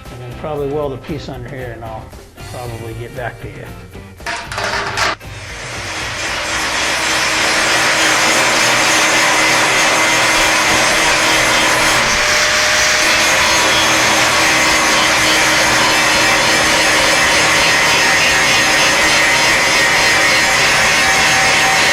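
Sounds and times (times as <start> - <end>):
electric arc welding: 4.2 - 21.9.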